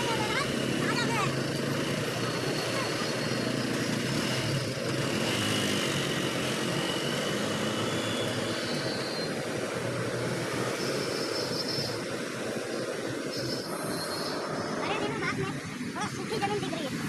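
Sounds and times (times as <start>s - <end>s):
street noise: 0.0s - 17.0s
vehicle engine humming: 0.0s - 17.0s.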